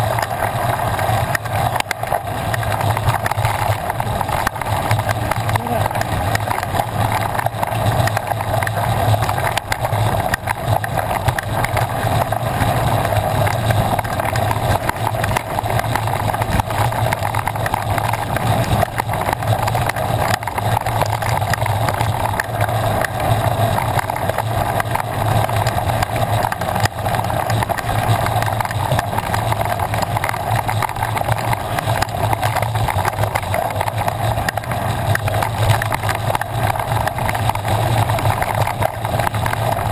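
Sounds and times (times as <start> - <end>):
bike rattles and knocks: 0.0 - 39.9
bike tyre noise: 0.0 - 39.9.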